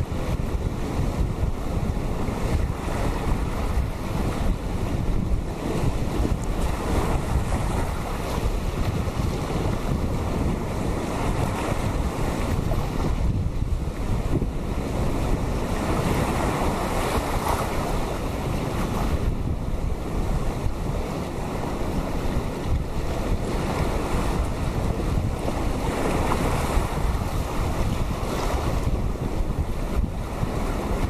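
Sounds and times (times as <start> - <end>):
ocean waves washing on rocks: 0.0 - 31.0
wind buffeting microphone: 0.0 - 31.0.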